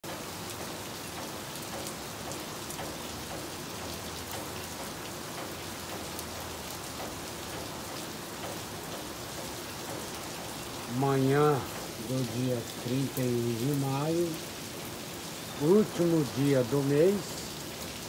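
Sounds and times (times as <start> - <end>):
steady rain hiss: 0.0 - 18.0
water dripping: 0.0 - 18.0
water running off eaves: 0.0 - 18.0.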